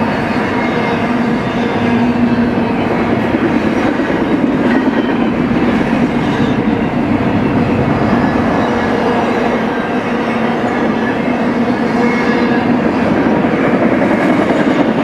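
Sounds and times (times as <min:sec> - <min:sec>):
freight train wheels rolling on rails: 0:00.0 - 0:15.0.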